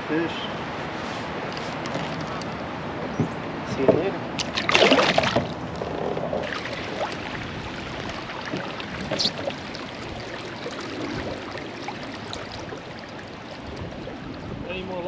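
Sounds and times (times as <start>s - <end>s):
water lapping along kayak hull: 0.7s - 15.0s.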